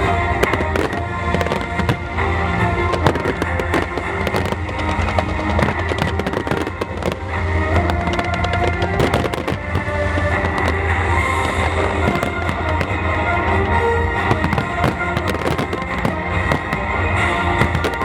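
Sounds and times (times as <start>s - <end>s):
fireworks bursting and crackling: 0.0s - 18.0s
music playing: 0.0s - 18.0s.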